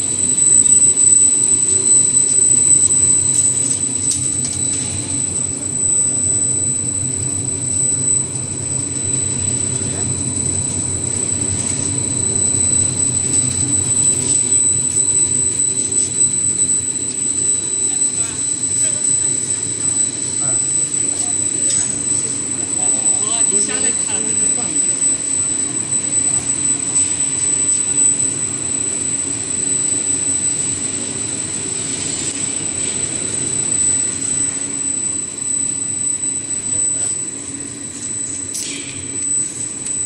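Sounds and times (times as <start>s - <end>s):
high-pitched machine whine: 0.0s - 40.0s
machine drone: 0.0s - 40.0s.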